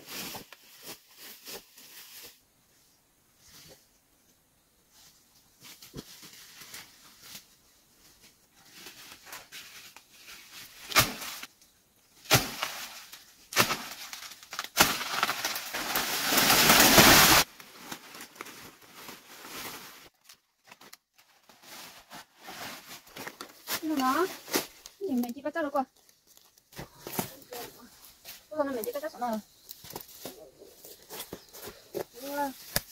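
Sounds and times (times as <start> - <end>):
undergrowth rustling and crackling: 0.0 - 2.4, 4.9 - 32.9.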